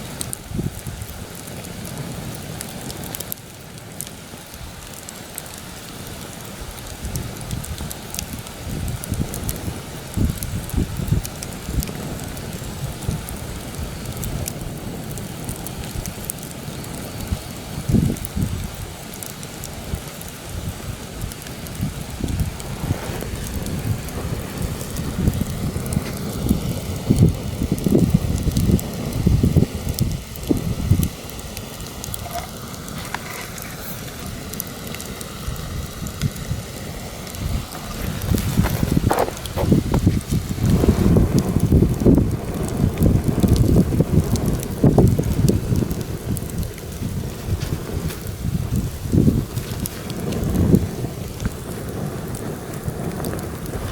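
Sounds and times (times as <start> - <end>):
wind gusts on microphone: 0.0 - 3.2, 4.3 - 53.9
campfire crackling: 0.0 - 53.9.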